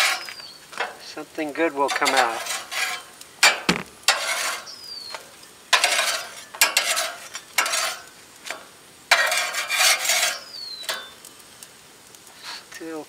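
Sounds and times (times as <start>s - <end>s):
metal spatula scraping grill grate: 0.0s - 11.5s
food sizzling: 0.0s - 13.0s.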